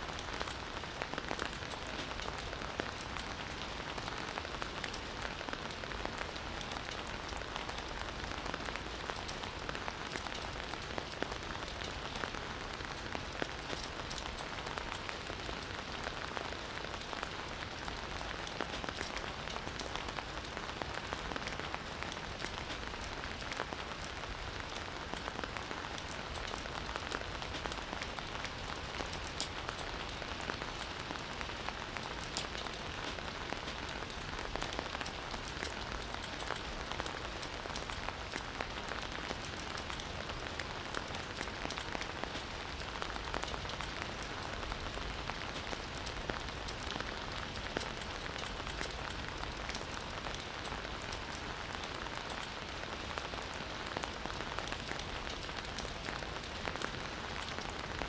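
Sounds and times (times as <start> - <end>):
campfire crackling and hissing: 0.0 - 58.0.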